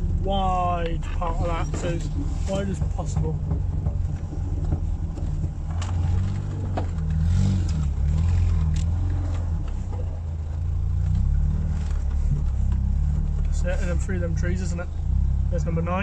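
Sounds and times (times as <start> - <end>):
car engine running under load: 0.0 - 16.0.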